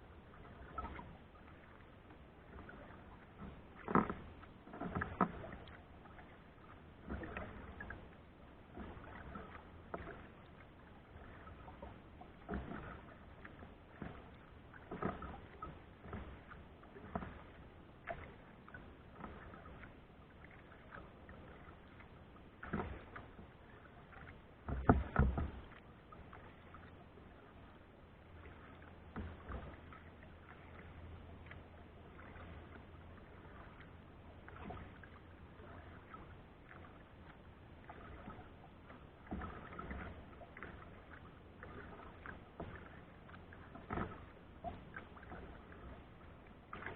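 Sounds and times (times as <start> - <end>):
kayak paddle strokes in water: 0.0 - 46.9.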